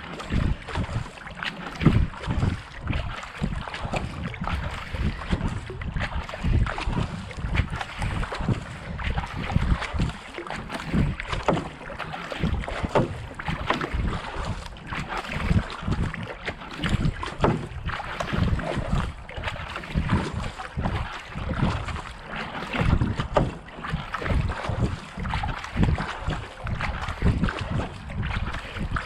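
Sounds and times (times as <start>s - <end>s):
paddle strokes in water: 0.0s - 29.0s
water rushing along hull: 0.0s - 29.0s
wind buffeting microphone: 0.1s - 22.1s, 22.7s - 29.0s.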